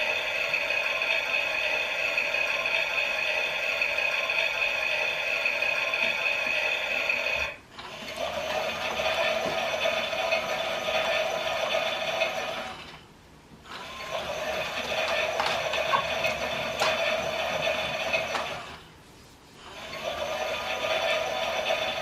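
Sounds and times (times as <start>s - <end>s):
toy motor whirring: 0.0s - 12.8s, 13.7s - 18.8s, 19.6s - 22.0s.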